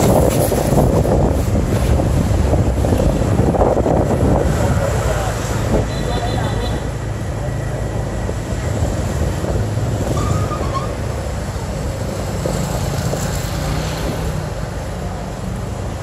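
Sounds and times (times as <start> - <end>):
wind buffeting microphone: 0.0 - 6.0, 7.0 - 16.0.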